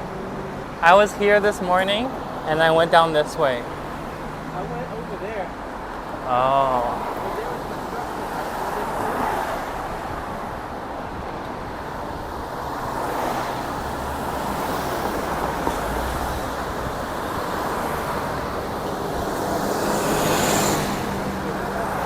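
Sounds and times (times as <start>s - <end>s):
cars going by: 0.0s - 22.0s
passing vehicle: 0.0s - 22.0s.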